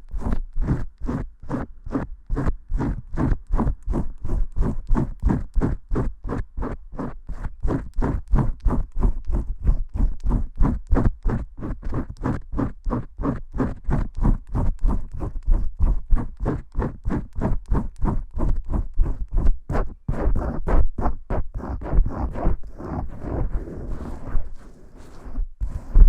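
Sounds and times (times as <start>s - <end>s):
fingers scrubbing shampoo lather: 0.1s - 26.0s.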